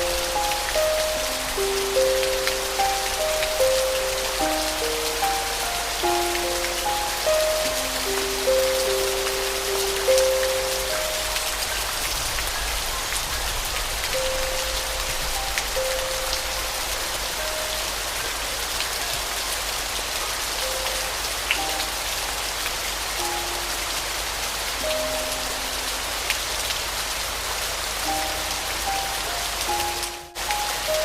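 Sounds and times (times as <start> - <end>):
soft slow piano melody: 0.0 - 31.0
steady rain falling: 0.0 - 31.0.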